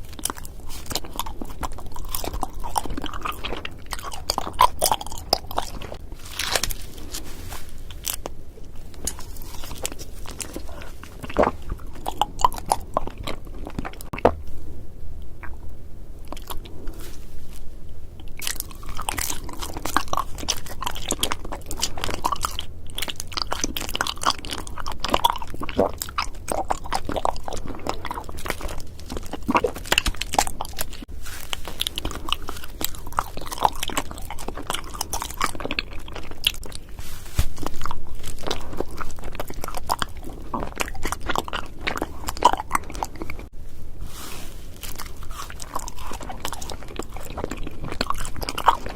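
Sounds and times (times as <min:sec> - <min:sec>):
biting and crunching candy: 0:00.0 - 0:14.5, 0:15.2 - 0:43.5, 0:44.7 - 0:48.9.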